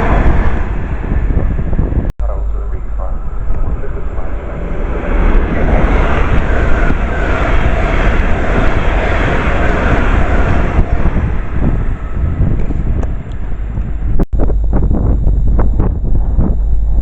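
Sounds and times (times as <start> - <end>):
train passing at speed: 0.0 - 14.2
wind buffeting microphone: 0.0 - 17.0.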